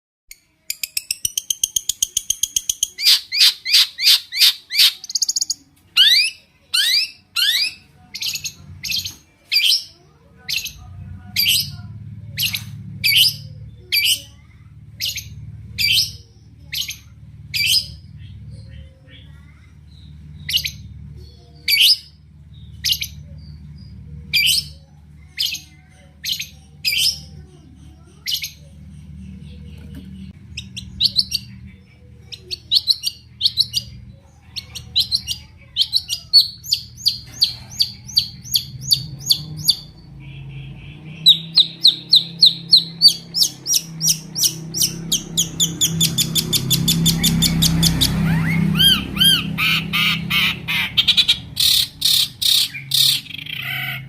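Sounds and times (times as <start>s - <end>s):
shrike singing and chattering: 0.4s - 54.0s.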